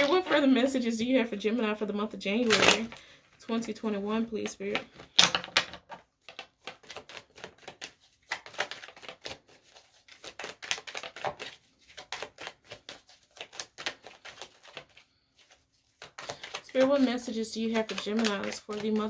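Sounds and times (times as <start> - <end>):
cards shuffled by hand: 2.3 - 3.0, 4.4 - 19.0.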